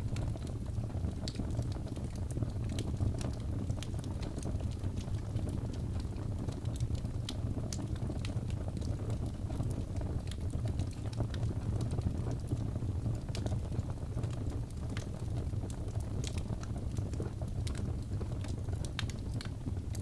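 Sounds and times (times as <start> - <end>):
fire popping and snapping: 0.0 - 20.0
fire rumbling: 0.0 - 20.0.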